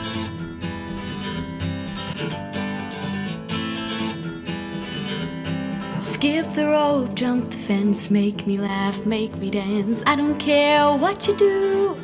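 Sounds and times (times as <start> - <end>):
pop song with acoustic guitar: 0.0 - 12.0.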